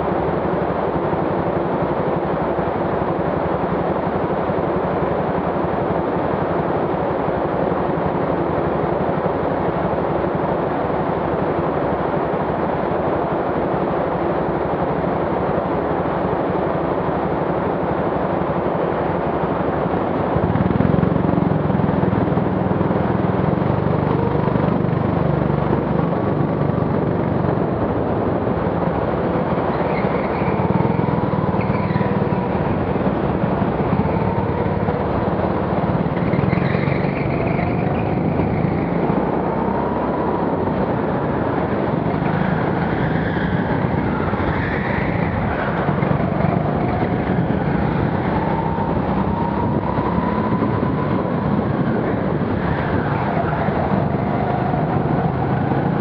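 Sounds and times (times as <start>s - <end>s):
go-kart motor drone: 0.0s - 56.0s.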